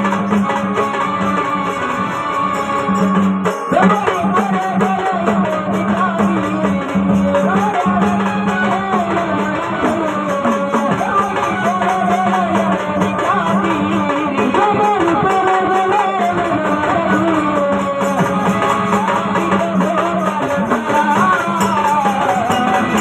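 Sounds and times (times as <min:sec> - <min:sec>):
hand drums: 0:00.0 - 0:23.0
person singing: 0:00.0 - 0:23.0.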